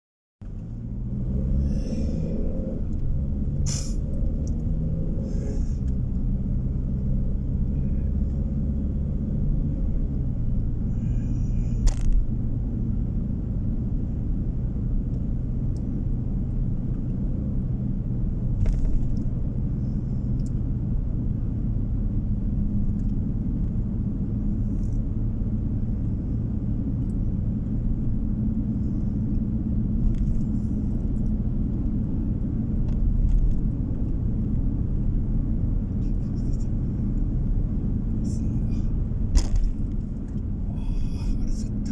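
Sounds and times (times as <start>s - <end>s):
car engine and road noise: 0.4s - 41.9s.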